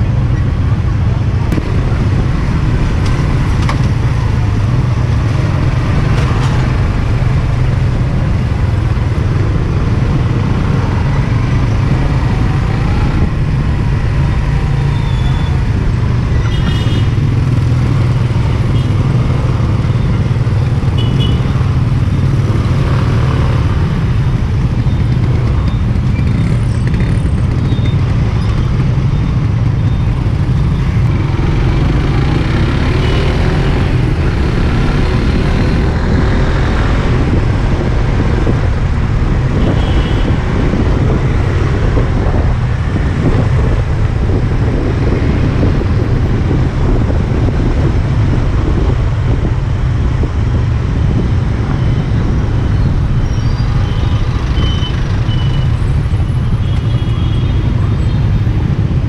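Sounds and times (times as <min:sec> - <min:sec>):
motorcycle engine rumble: 0:00.0 - 0:59.0
surrounding traffic noise: 0:00.0 - 0:59.0.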